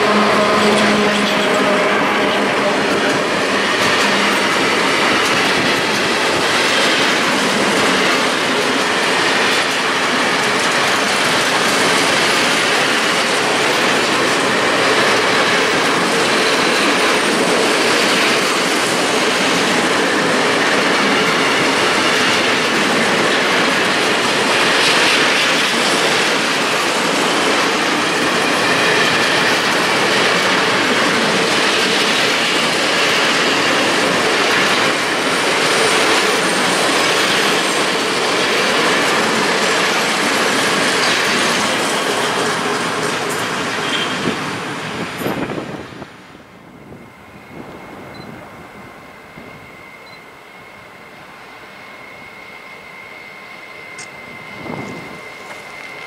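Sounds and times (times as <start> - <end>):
freight train wheels rolling on rails: 0.0 - 56.0.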